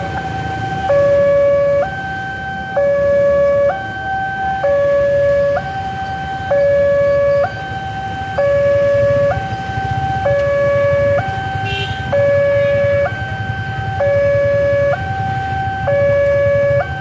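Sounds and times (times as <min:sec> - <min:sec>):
two-tone crossing alarm: 0:00.0 - 0:17.0.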